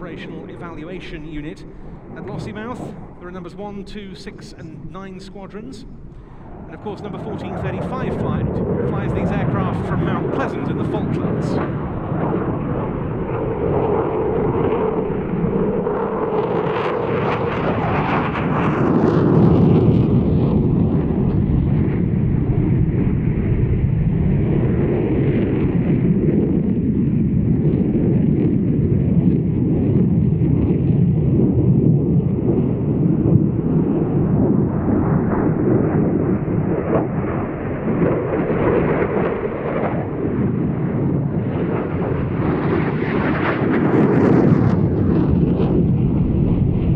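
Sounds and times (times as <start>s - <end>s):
jet fighter passing: 0.0s - 46.9s.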